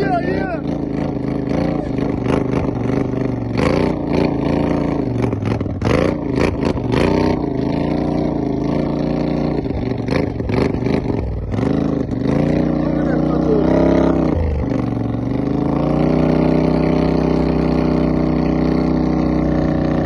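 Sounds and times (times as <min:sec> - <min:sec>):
vehicle engine revving under load: 0:00.0 - 0:20.0.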